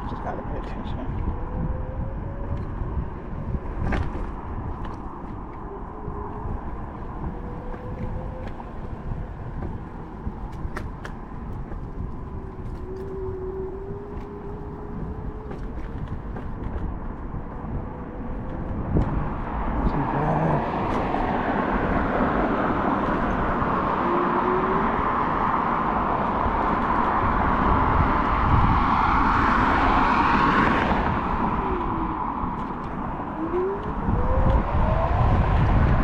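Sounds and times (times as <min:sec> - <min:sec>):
scooter road noise: 0:00.0 - 0:36.0
wind rush: 0:00.0 - 0:36.0.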